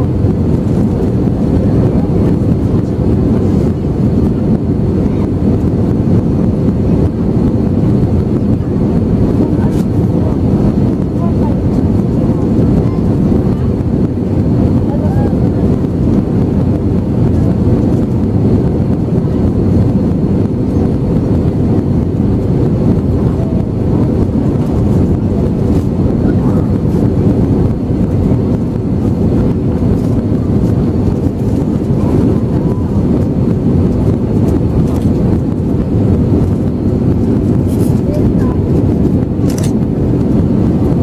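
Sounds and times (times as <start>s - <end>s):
jet engines humming: 0.0s - 41.0s
rush of air over fuselage: 0.0s - 41.0s.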